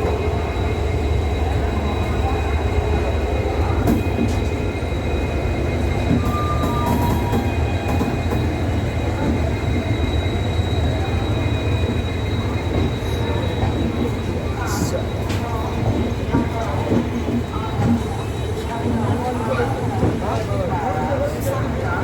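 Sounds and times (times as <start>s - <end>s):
train rumbling along track: 0.0s - 22.0s.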